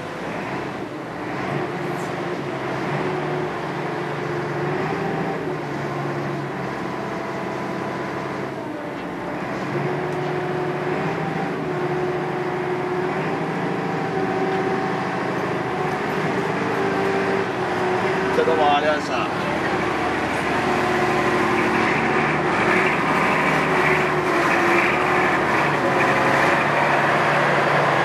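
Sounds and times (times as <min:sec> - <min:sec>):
boat diesel engine running: 0:00.0 - 0:28.0.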